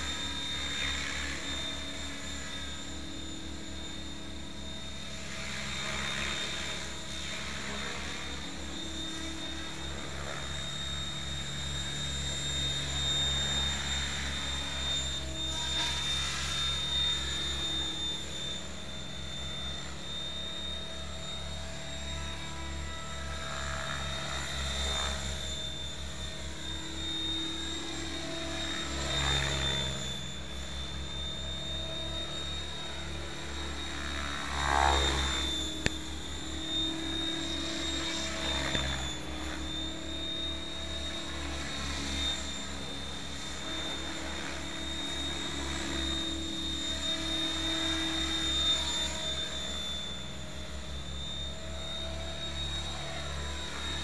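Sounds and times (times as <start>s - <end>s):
rc helicopter rotor and motor whine: 0.0s - 54.0s.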